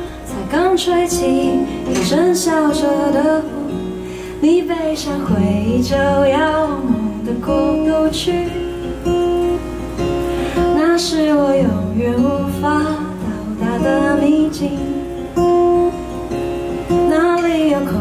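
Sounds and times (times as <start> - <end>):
woman singing: 0.0 - 9.2, 10.5 - 15.9, 16.9 - 18.0
acoustic guitar: 0.0 - 18.0.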